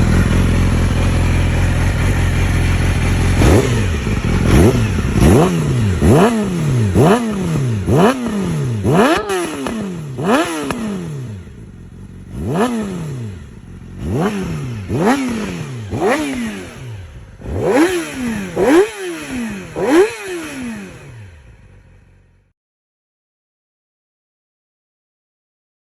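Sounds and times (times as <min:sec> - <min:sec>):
motorcycle engine revving: 0:00.0 - 0:22.5.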